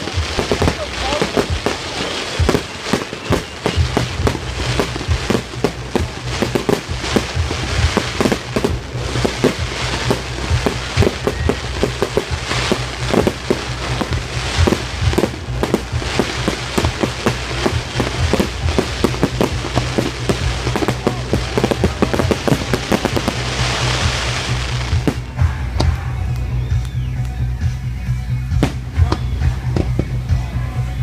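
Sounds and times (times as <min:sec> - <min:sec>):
fireworks bangs and crackles: 0:00.0 - 0:31.0
low rumble: 0:00.0 - 0:31.0.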